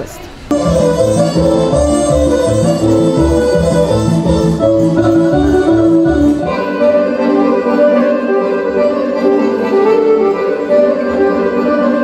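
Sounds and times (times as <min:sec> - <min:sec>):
accordion folk dance music: 0:00.5 - 0:12.0.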